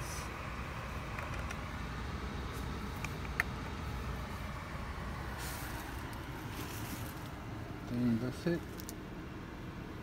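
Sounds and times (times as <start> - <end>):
pickup engine idling: 0.0 - 10.0.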